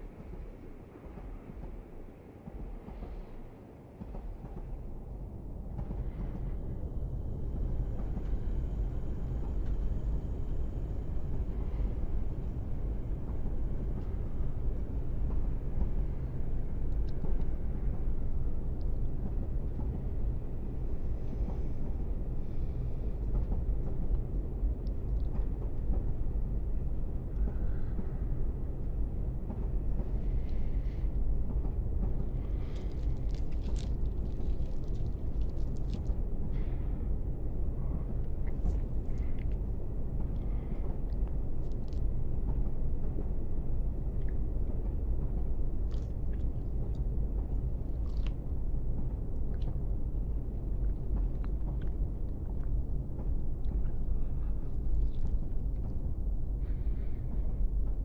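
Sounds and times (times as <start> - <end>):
train carriage rumbling on track: 0.0 - 58.0.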